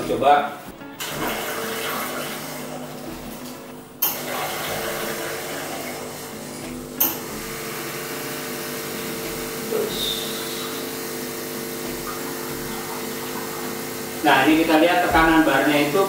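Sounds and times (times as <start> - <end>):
espresso machine pump running: 0.7 - 16.0.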